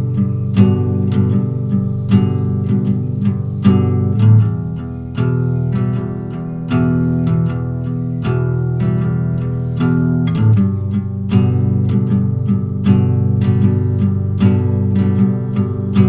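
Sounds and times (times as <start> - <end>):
guitar playing plucked notes: 0.0 - 16.0.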